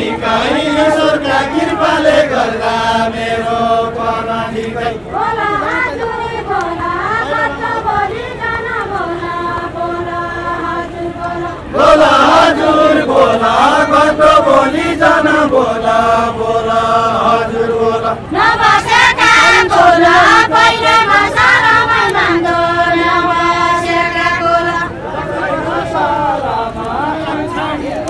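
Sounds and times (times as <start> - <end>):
women singing: 0.0 - 27.9
men singing in unison: 0.0 - 28.0.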